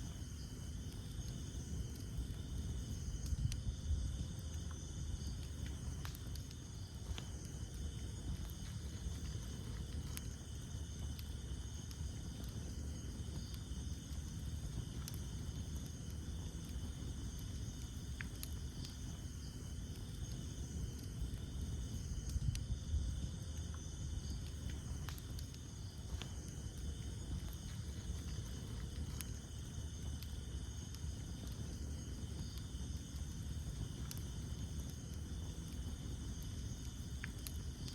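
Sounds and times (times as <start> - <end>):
campfire crackling and popping: 0.0 - 37.9
crickets trilling: 0.0 - 37.9.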